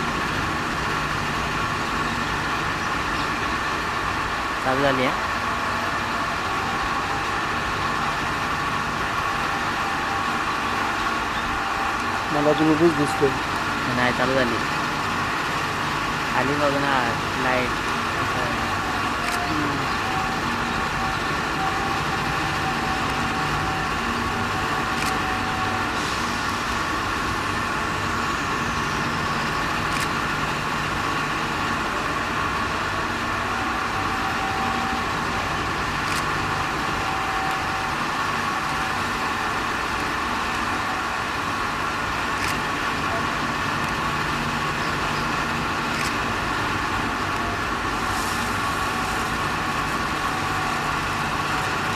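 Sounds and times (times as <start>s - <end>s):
train-washing machine drone: 0.0s - 51.9s.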